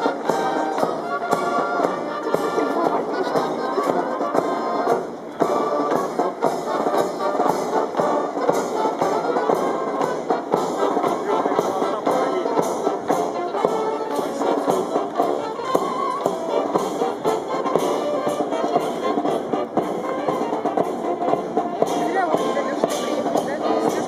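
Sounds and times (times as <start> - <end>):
military band march: 0.0 - 24.0.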